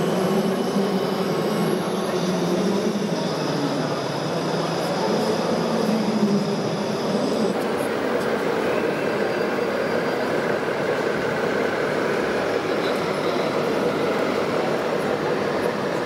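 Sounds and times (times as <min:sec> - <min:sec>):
busy exhibition hall din: 0:00.0 - 0:16.0.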